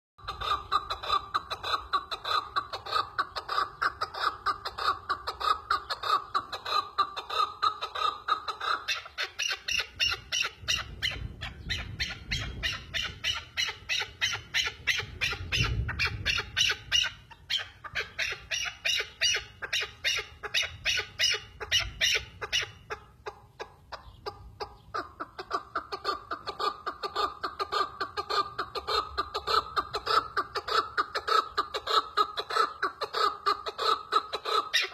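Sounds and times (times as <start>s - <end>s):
partridge chucking call: 0.2s - 34.9s.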